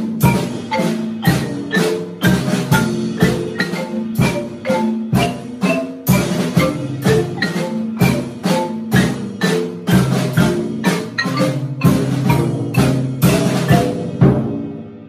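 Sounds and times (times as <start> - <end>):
marimbas and vibraphone playing: 0.0 - 14.7.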